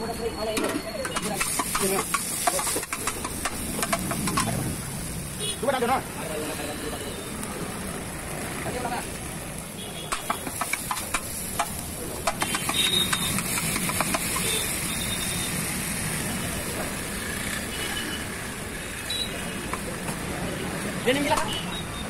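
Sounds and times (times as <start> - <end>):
food sizzling: 0.0 - 22.0.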